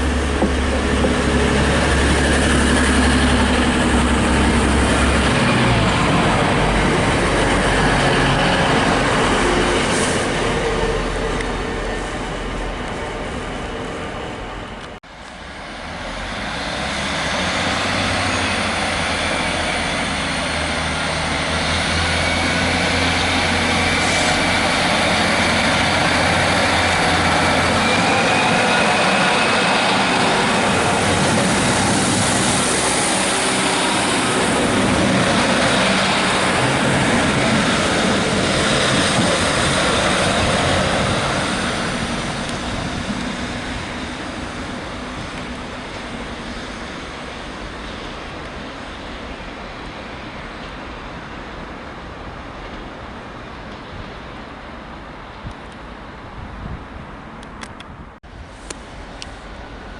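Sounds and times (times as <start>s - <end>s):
passenger train running: 0.0s - 59.9s.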